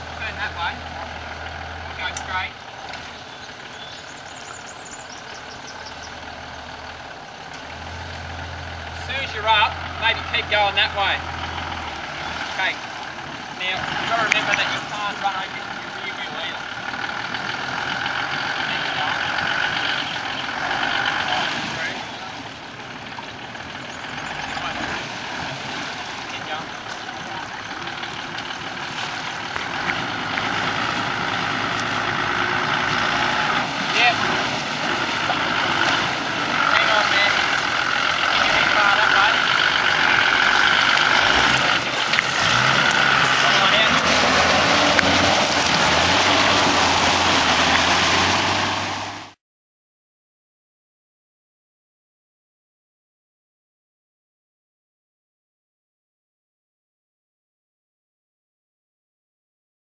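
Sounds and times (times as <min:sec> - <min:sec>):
engine idling: 0:00.0 - 0:49.1
water washing around a vehicle: 0:00.0 - 0:49.4.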